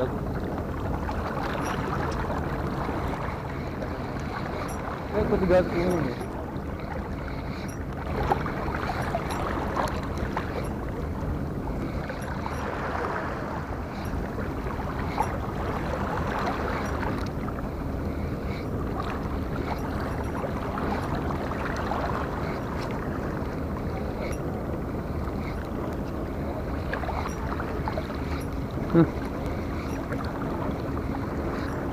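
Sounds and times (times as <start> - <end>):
water noise: 0.0 - 31.9
wind: 0.0 - 31.9.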